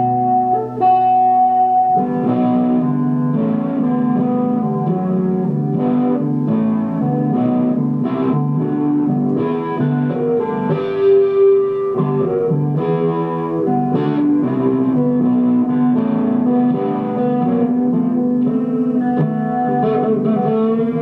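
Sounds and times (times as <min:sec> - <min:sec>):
plucked guitar playing: 0:00.0 - 0:21.0.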